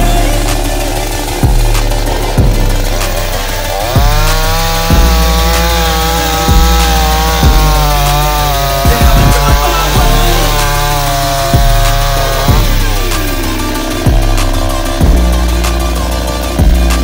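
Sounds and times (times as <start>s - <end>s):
chainsaw revving: 0.0s - 17.0s
hip hop beat with heavy bass: 0.0s - 17.0s.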